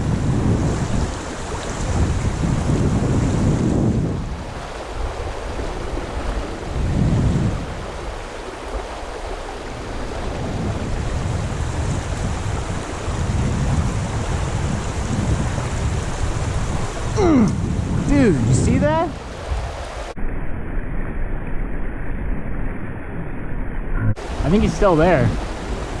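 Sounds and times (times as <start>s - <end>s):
creek water rushing: 0.0s - 20.2s, 24.2s - 26.0s
wind buffeting microphone: 0.0s - 20.2s, 24.1s - 26.0s.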